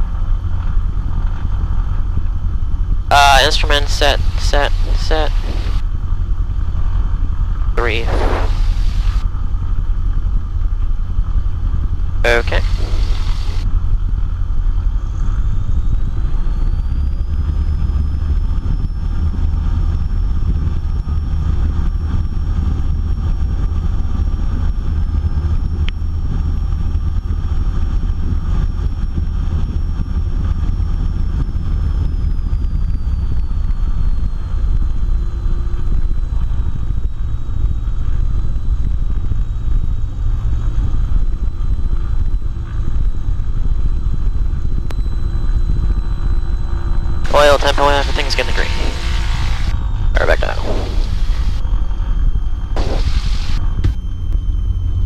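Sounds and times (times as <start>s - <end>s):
propeller plane engine run-up: 0.0s - 55.0s.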